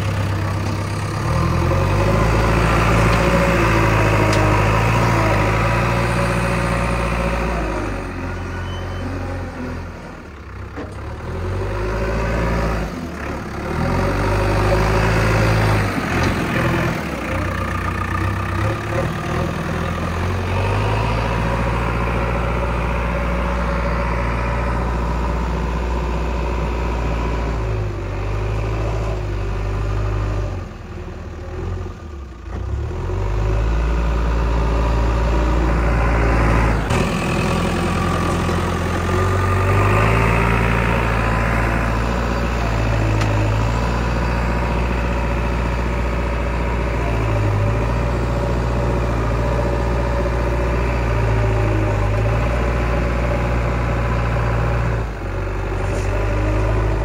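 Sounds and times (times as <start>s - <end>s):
diesel engine revving with whines: 0.0s - 57.0s.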